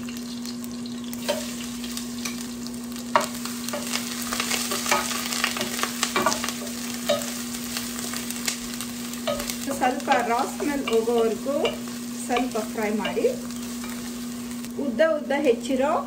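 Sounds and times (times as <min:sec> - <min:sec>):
paste sizzling in hot oil: 0:00.0 - 0:14.8
steady low hum: 0:00.3 - 0:16.0.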